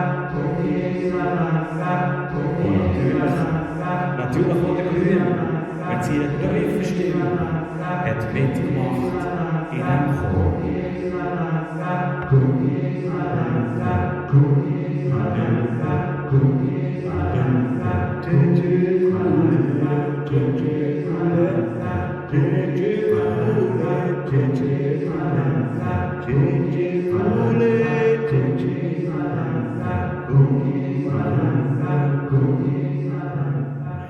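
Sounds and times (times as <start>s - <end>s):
deep vocal drone: 0.0s - 34.0s
people singing wordless chorus: 0.0s - 34.0s.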